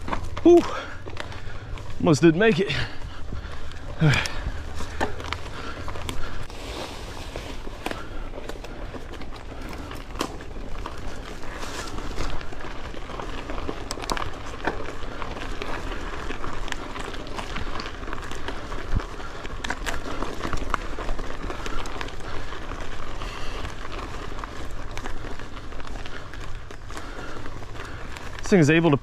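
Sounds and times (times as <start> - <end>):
bike tyres on gravel: 0.0 - 29.0
stones and bike rattling: 0.0 - 29.0.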